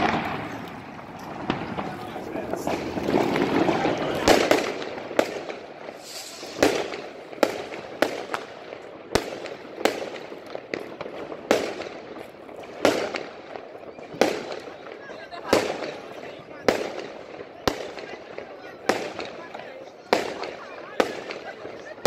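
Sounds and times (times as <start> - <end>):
fireworks exploding: 0.0 - 22.0.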